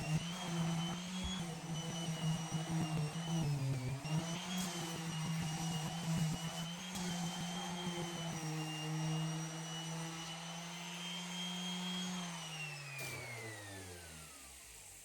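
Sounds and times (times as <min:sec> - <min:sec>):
vacuum motor whining: 0:00.0 - 0:15.0.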